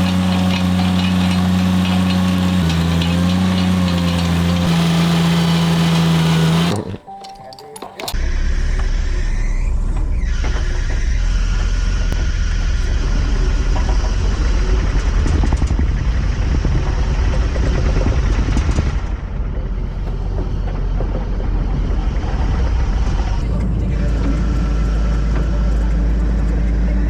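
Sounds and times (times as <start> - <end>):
machine engine rumbling: 0.0 - 27.0.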